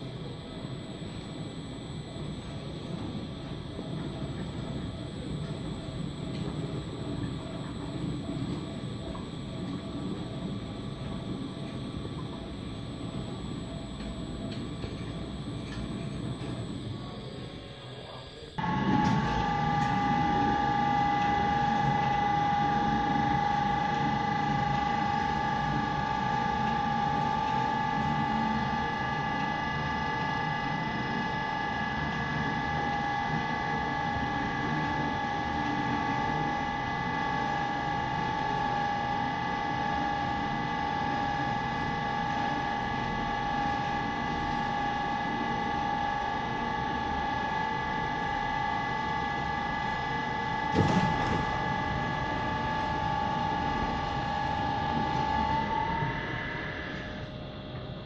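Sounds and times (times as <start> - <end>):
machine hum with high whine: 0.0 - 58.0.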